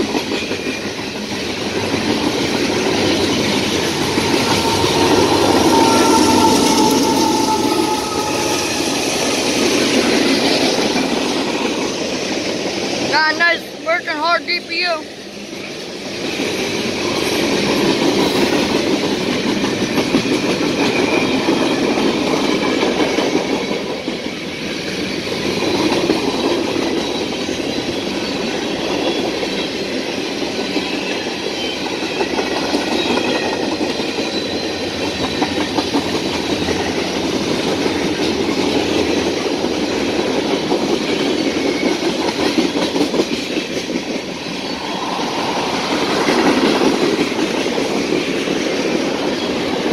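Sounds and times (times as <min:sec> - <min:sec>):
freight train wheels clattering on rail: 0:00.0 - 0:13.1, 0:15.1 - 0:49.9.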